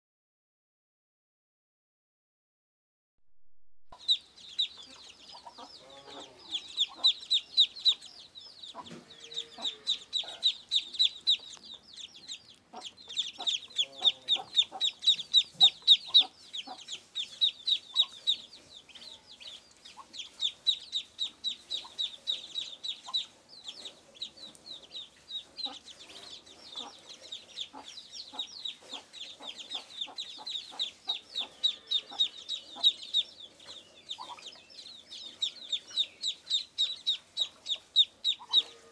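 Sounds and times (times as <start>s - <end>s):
ducklings peeping: 3.9s - 38.9s.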